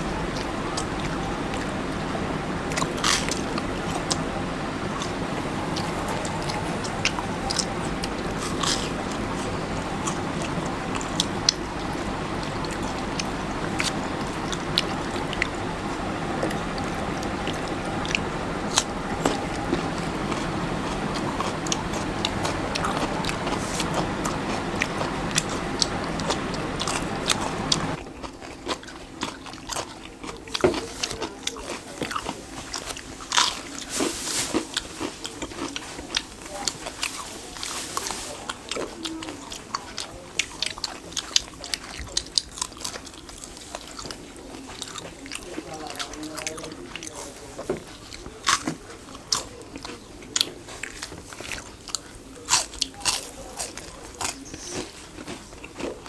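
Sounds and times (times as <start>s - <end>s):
bites and crunchy chewing: 0.0s - 56.0s
steady background hum: 0.0s - 56.0s.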